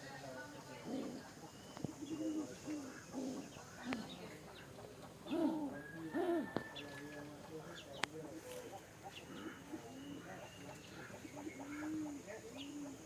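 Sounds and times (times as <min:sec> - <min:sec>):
pigeons cooing: 0:00.6 - 0:13.0.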